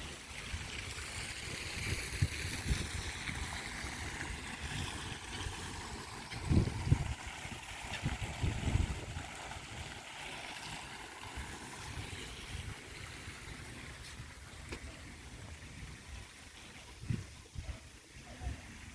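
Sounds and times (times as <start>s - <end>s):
water rushing: 0.0s - 18.9s.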